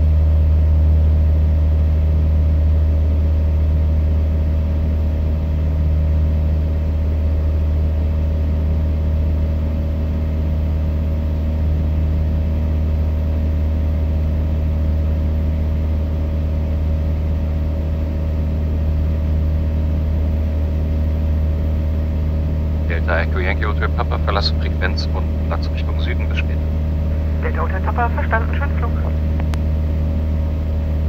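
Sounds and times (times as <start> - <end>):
aircraft engine and propeller droning: 0.0 - 31.0.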